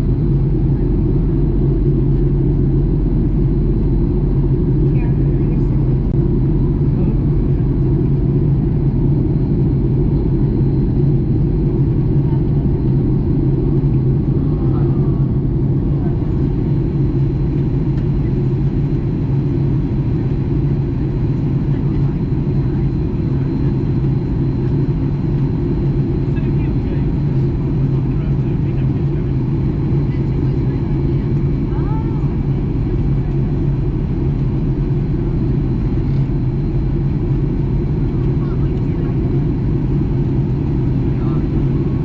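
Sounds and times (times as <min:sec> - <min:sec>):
airplane cabin drone: 0:00.0 - 0:42.0.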